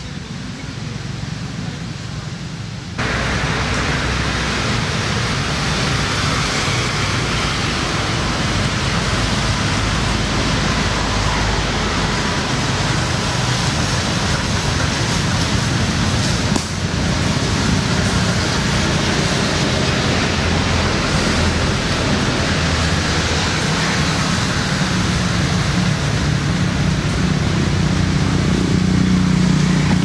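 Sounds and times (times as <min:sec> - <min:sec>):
outdoor rushing hiss: 0:00.0 - 0:30.0.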